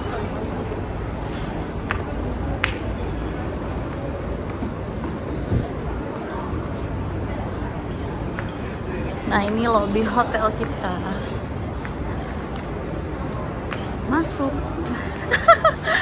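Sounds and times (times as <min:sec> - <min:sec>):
high-pitched whine: 0:00.0 - 0:14.8
outdoor background noise: 0:00.0 - 0:16.0.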